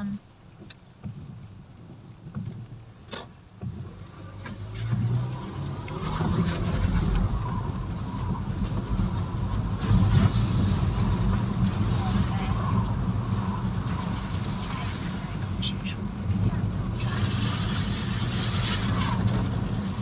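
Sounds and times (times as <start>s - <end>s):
low vehicle rumble: 0.0s - 20.0s.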